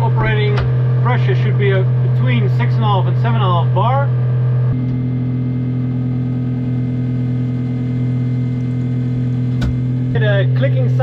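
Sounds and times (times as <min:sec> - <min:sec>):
electric pump humming: 0:00.0 - 0:11.0.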